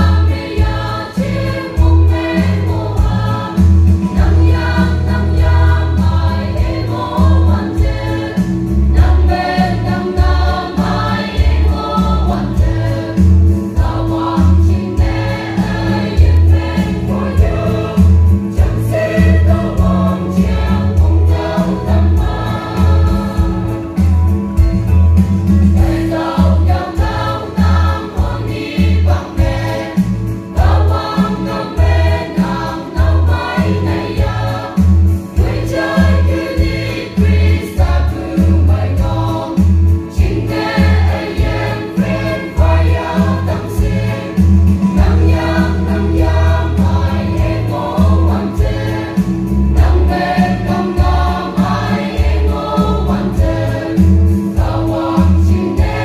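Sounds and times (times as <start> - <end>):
amplified accompaniment with bass beat: 0.0 - 56.0
mixed choir singing: 0.0 - 56.0.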